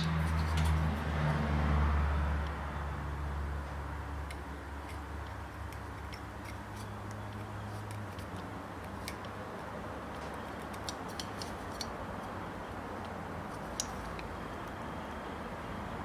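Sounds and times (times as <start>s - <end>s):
steady background hum: 2.2s - 16.0s.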